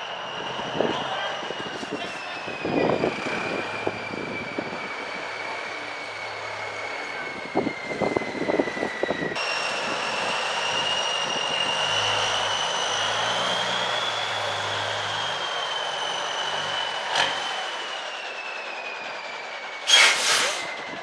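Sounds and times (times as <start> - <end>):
truck engines whining: 0.0 - 21.0.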